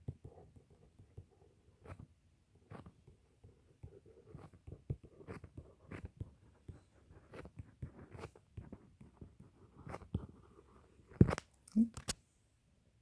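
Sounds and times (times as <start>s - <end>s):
pen writing on paper: 0.0s - 11.4s.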